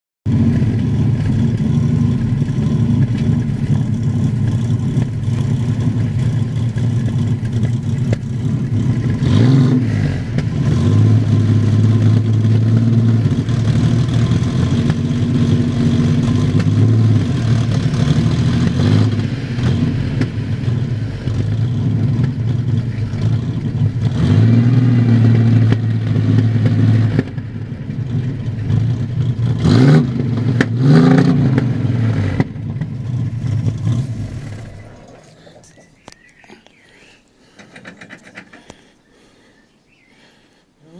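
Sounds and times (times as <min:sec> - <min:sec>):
pickup engine revving: 0:00.3 - 0:36.2.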